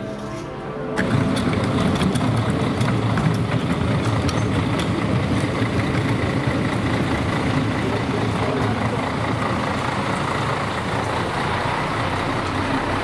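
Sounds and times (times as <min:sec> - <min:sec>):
diesel engine rumbling: 0:00.6 - 0:13.0.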